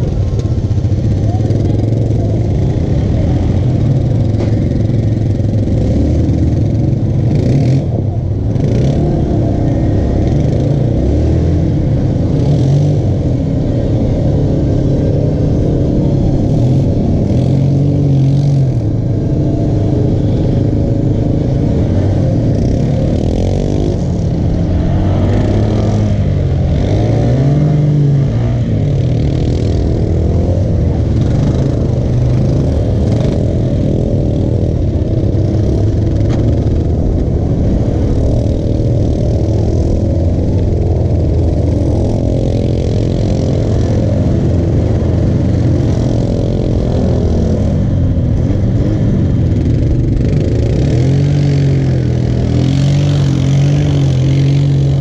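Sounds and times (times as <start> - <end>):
atv engine idling and revving: 0.0 - 55.0
other vehicle engines revving: 0.0 - 55.0.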